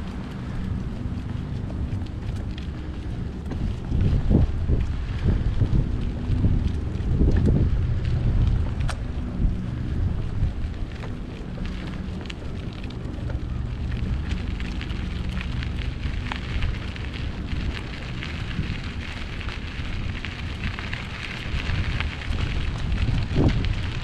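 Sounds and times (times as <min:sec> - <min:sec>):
irregular crackling: 0:00.0 - 0:24.0
wind buffeting microphone: 0:00.0 - 0:24.0.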